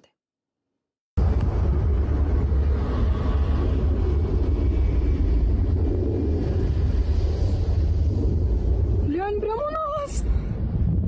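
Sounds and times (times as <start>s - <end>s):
loud low rumble: 1.2s - 11.0s.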